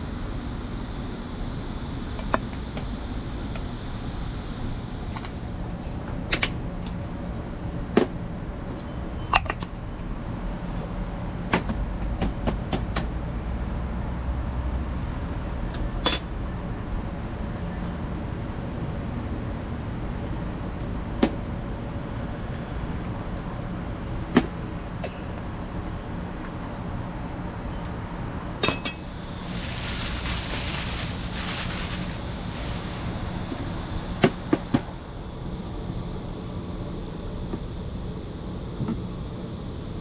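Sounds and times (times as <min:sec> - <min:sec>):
steady low hum: 0:00.0 - 0:12.2, 0:13.1 - 0:40.0.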